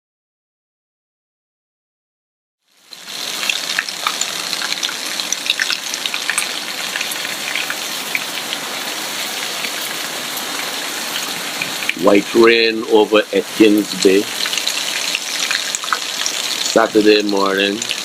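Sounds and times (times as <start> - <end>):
raindrops ticking on surfaces: 2.7 - 18.0
heavy rain falling: 2.8 - 18.0.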